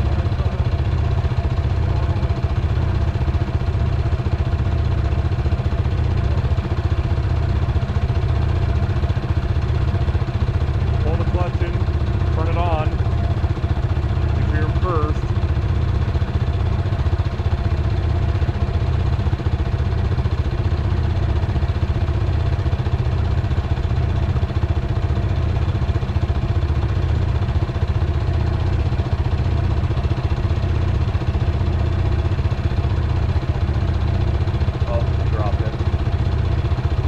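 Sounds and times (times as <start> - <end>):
dirt bike engine running: 0.0 - 37.0.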